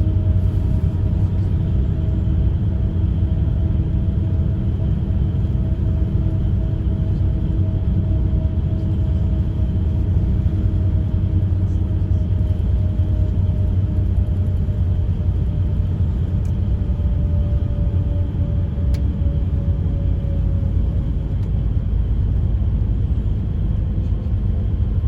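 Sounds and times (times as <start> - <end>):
bus engine rumble: 0.0 - 25.0
road noise: 0.0 - 25.0.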